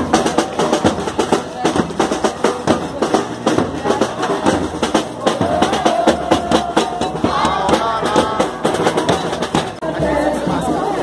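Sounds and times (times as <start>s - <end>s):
smaller drums struck with sticks: 0.0s - 10.8s
bass drum beating: 0.0s - 11.0s
crowd voices: 0.0s - 11.0s.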